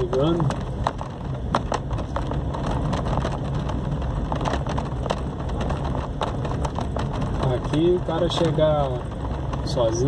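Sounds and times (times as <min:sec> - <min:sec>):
car engine humming: 0:00.0 - 0:10.0
car knocks and rattles: 0:00.0 - 0:10.0.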